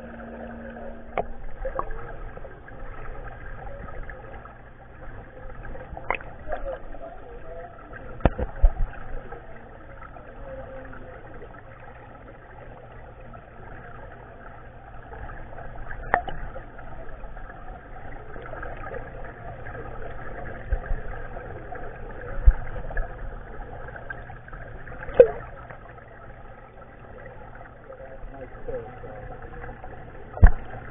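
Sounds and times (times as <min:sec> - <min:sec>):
muffled underwater noise: 0:00.0 - 0:30.9.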